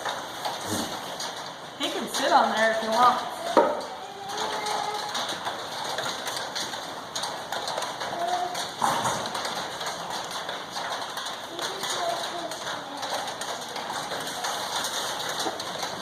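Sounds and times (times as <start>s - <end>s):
rain hissing on a roof: 0.0s - 16.0s.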